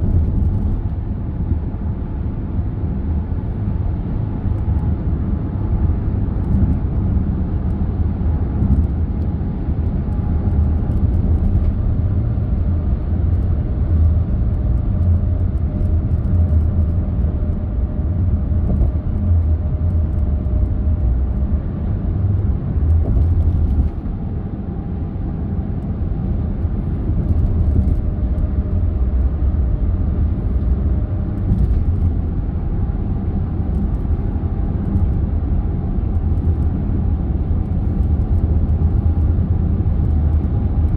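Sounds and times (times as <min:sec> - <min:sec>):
road and engine rumble: 0:00.0 - 0:40.9.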